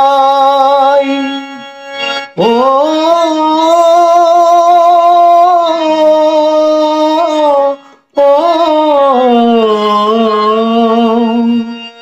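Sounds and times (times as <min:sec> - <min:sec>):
man singing a held vowel: 0:00.0 - 0:01.7, 0:02.3 - 0:12.0
harmonium note: 0:00.0 - 0:12.0.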